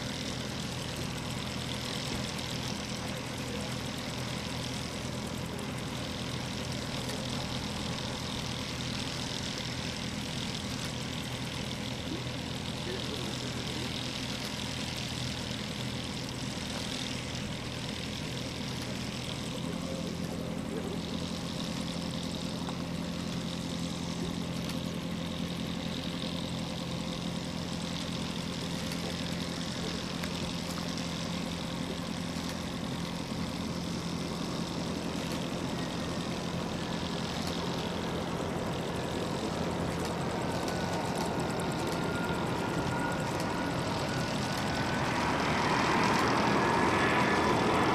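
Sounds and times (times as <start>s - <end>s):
high engine whine: 0.0s - 47.9s
jet engines drone: 0.0s - 47.9s.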